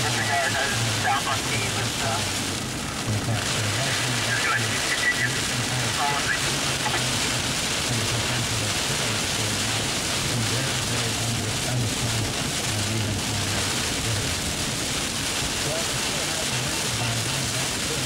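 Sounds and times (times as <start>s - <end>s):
faint voices: 0.0s - 18.0s
low uneven hum: 0.0s - 18.0s
rain on a vehicle: 0.0s - 18.0s.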